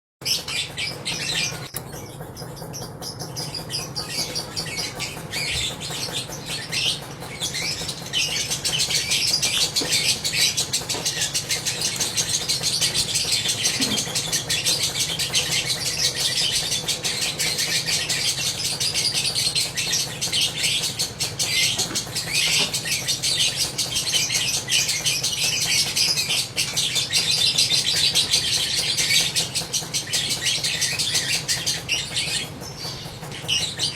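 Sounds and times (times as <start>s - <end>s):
bird chattering chirps: 0.2s - 33.9s.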